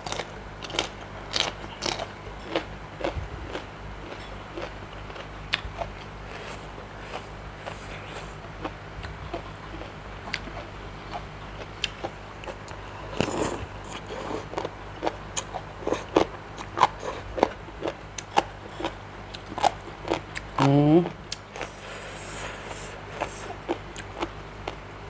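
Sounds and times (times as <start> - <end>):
person chewing food: 0.0 - 20.6, 21.3 - 24.8.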